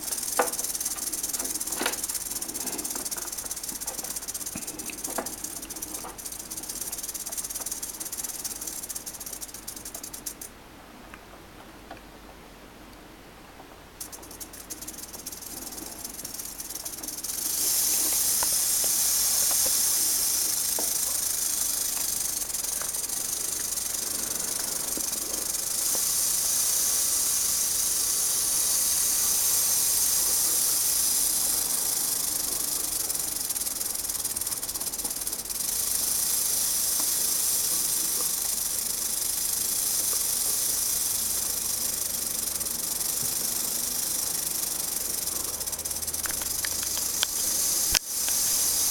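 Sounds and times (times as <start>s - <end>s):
rattlesnake rattling: 0.0s - 10.5s, 14.0s - 48.9s.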